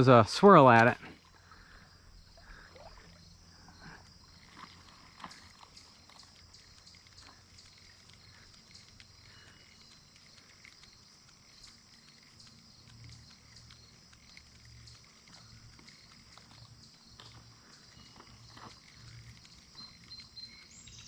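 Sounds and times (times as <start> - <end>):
soft ticks: 4.0 - 21.0.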